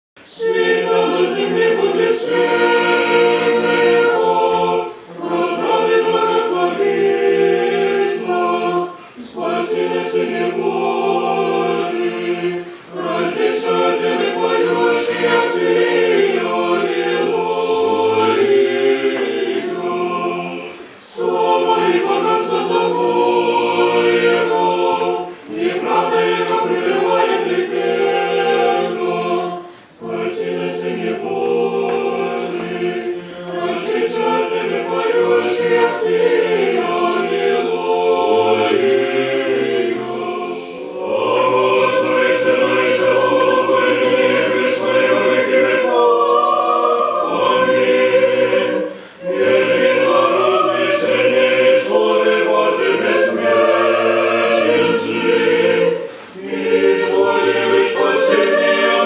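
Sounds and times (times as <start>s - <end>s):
choir singing a cappella chant: 0.2s - 59.0s.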